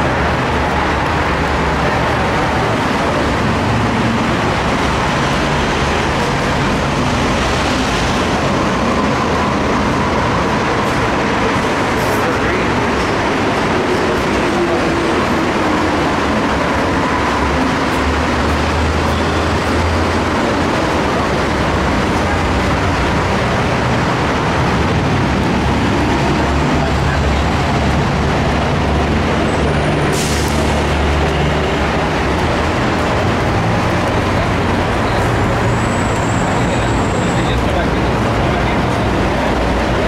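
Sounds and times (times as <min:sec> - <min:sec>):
low rumble of trains: 0:00.0 - 0:40.0
passengers moving about: 0:00.0 - 0:40.0.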